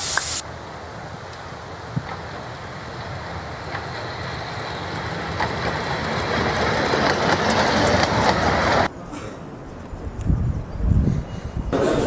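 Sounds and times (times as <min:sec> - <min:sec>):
steam train passing: 0:00.0 - 0:12.0.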